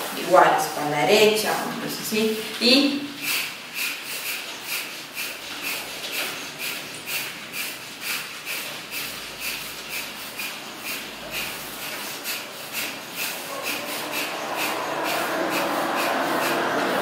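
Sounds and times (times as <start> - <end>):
forceful nasal exhalations: 3.1 - 17.0.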